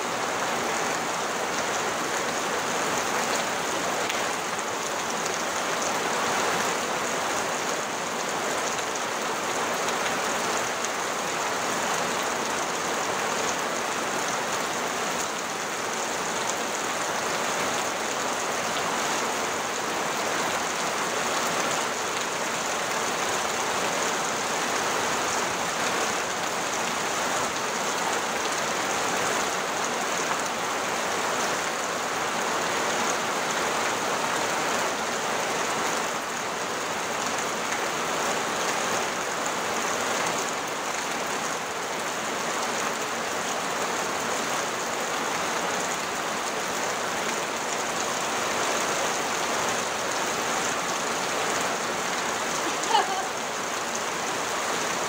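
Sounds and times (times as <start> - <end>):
rain on a tin roof: 0.0 - 55.0
runoff water streaming: 0.0 - 55.0.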